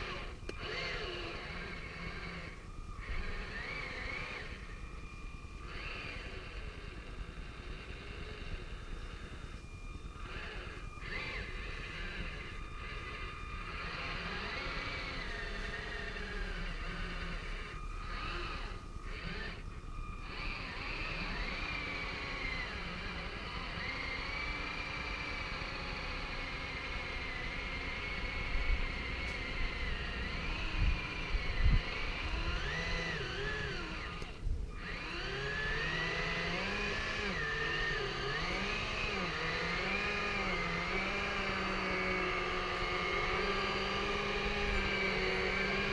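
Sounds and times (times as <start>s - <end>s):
electric motors whining: 0.0s - 45.9s.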